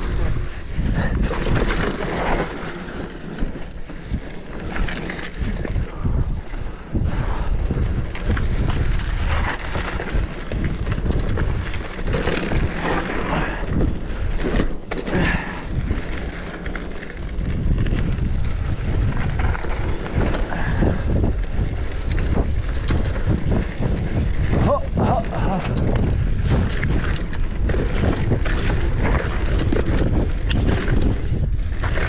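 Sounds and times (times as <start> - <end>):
bike rattling and knocking: 0.0 - 32.0
tyres on dirt trail: 0.0 - 32.0
wind buffeting microphone: 0.0 - 32.0.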